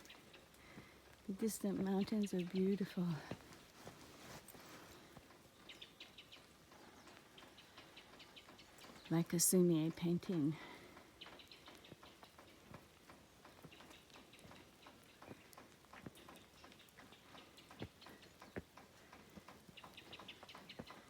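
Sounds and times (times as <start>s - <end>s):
light rain dripping: 0.0s - 21.0s.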